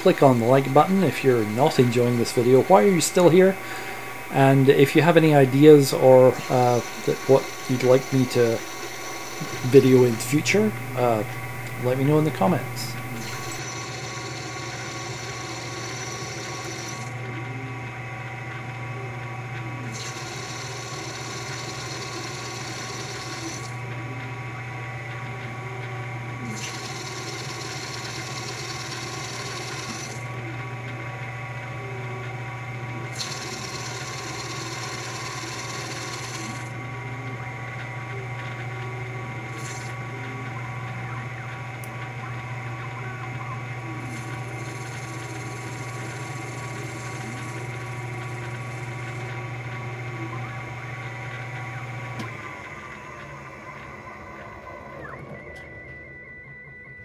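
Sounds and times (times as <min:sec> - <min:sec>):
motor and spindle hum: 0:00.0 - 0:57.0.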